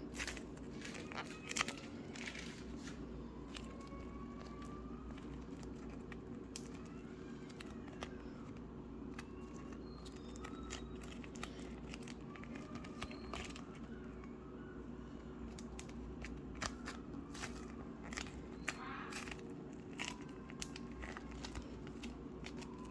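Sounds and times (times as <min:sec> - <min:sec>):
slime squished by hand: 0:00.0 - 0:22.9.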